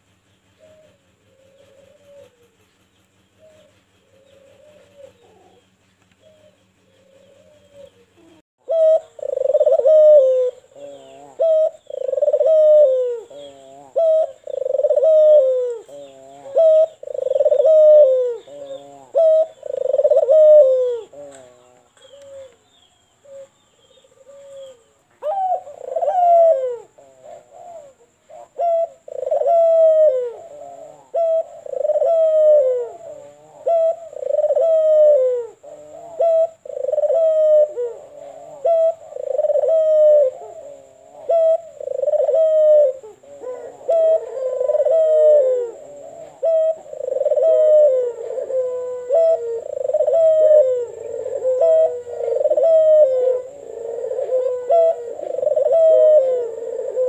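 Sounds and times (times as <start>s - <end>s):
dove cooing: 0.0s - 2.7s, 3.4s - 57.0s.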